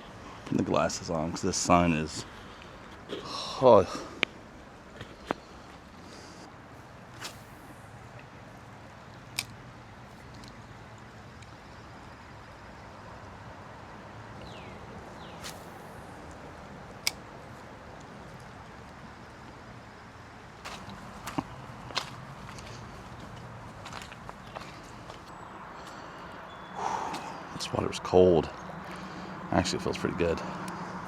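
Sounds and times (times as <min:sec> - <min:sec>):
distant traffic: 0:00.0 - 0:31.0.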